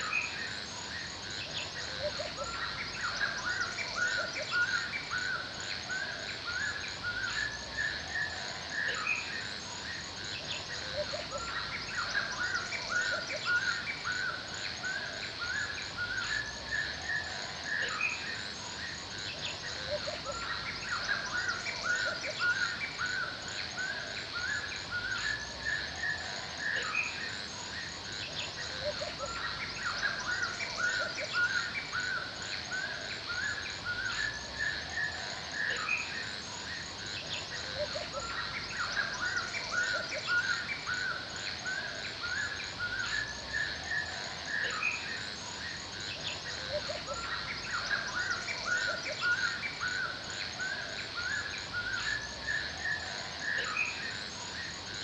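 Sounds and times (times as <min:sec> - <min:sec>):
forest birds chirping: 0:00.0 - 0:55.0.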